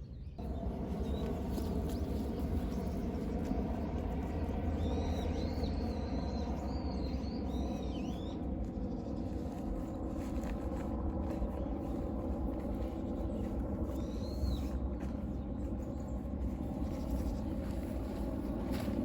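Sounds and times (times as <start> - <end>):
birds chirping: 0.0 - 19.0
steady low rumble: 0.4 - 19.0.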